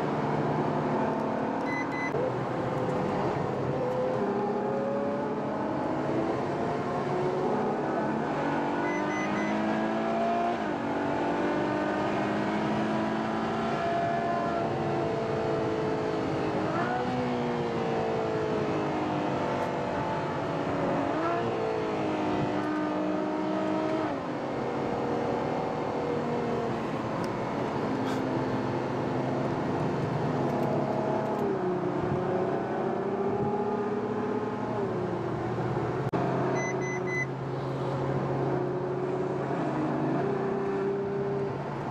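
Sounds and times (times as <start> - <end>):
car engine revving while driving: 0.0 - 41.9.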